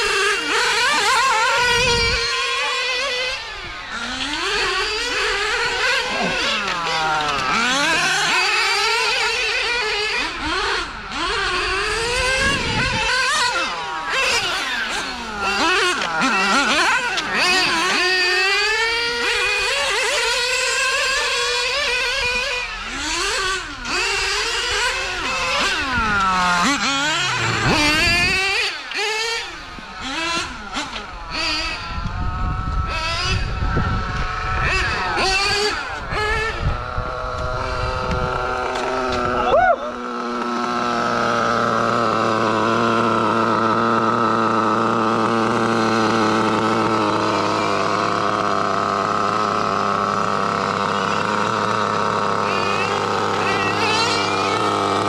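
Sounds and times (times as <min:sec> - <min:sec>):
nitro rc car engines revving: 0:00.0 - 0:55.0.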